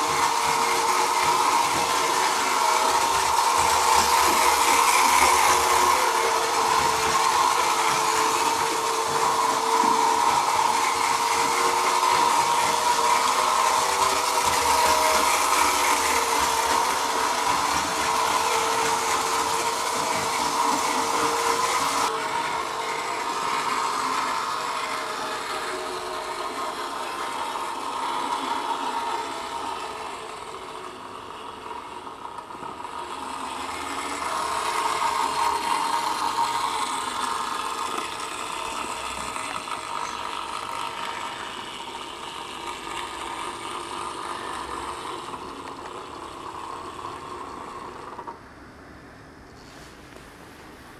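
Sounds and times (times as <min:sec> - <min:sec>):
model train whirring: 0:00.0 - 0:50.9.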